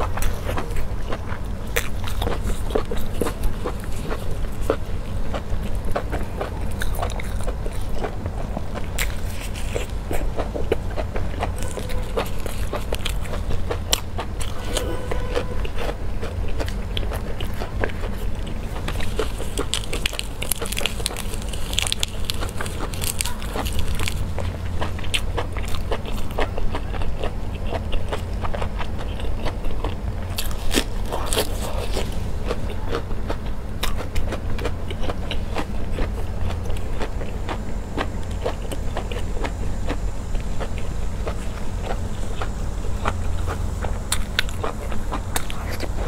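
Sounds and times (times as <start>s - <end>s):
low hum: 0.0s - 46.0s
person chewing food: 0.0s - 46.0s.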